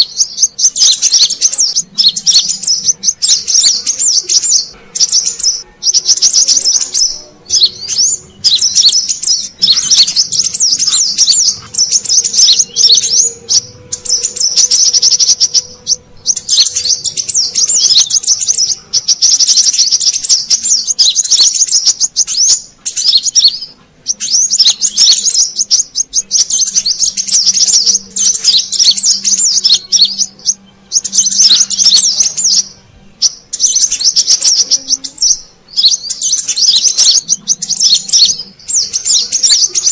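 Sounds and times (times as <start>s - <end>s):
high-pitched twittering bird chirps: 0.0s - 39.9s.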